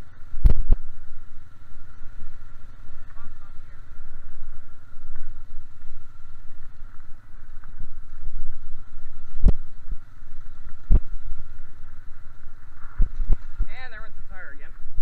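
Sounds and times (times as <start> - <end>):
atv engine running: 0.0 - 15.0
wheels rolling over gravel: 0.0 - 15.0.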